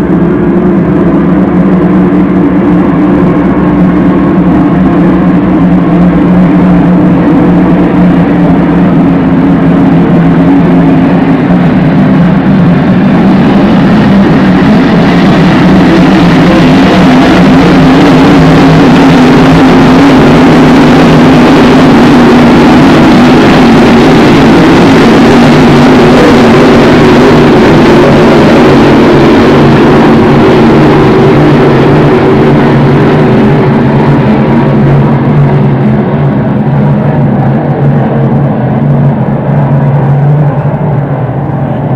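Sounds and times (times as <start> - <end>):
racing boat engines droning: 0.0 - 41.9.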